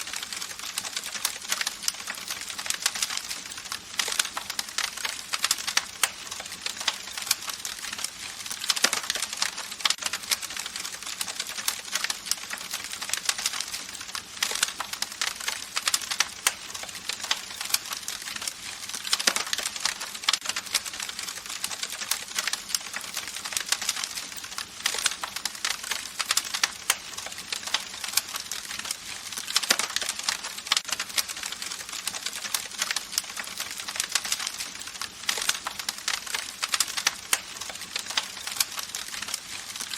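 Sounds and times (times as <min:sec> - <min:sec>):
wood popping and snapping: 0:00.1 - 0:39.9.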